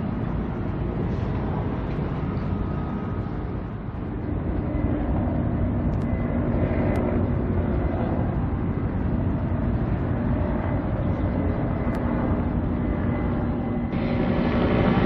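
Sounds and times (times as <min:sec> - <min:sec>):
harbour wind: 0:00.0 - 0:15.0
ship engine rumble: 0:00.0 - 0:15.0
steady hum: 0:00.0 - 0:15.0.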